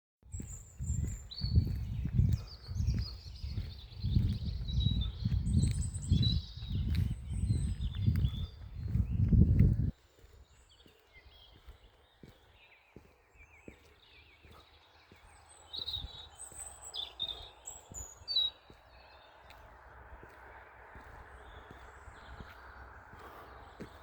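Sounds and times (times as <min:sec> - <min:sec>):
wild birds chirping: 0:00.3 - 0:24.0.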